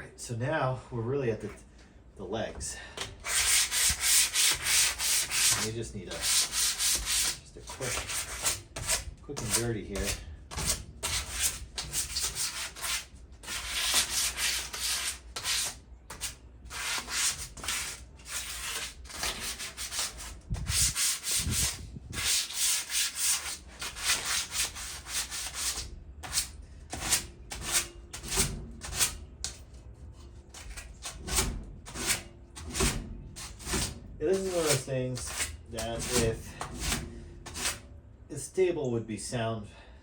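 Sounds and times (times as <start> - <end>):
sandpaper scrubbing metal: 3.2 - 29.6, 30.3 - 37.8.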